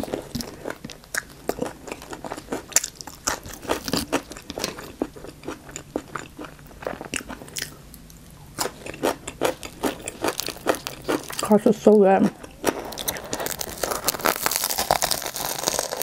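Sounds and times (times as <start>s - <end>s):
crunchy chewing: 0.0s - 11.5s, 12.3s - 16.0s.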